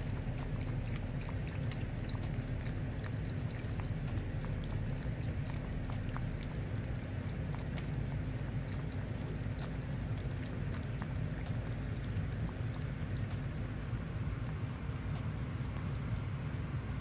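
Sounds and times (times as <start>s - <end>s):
cats lapping liquid: 0.0s - 17.0s
steady low hum: 0.0s - 17.0s.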